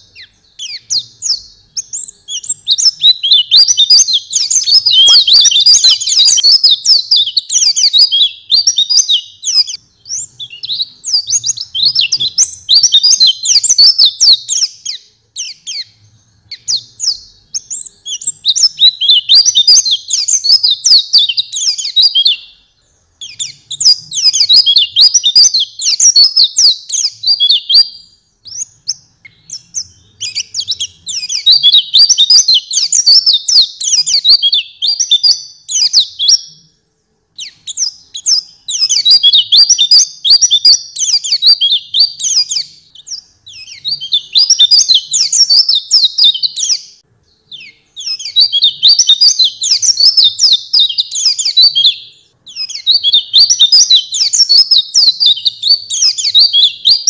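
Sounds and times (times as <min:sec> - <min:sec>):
bird twittering chirps: 0:00.0 - 0:57.0.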